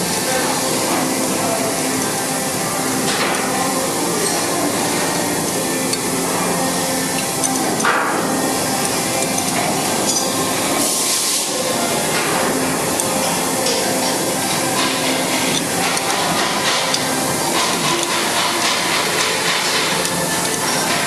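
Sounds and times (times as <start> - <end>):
steady background hum and hiss: 0.0 - 21.0.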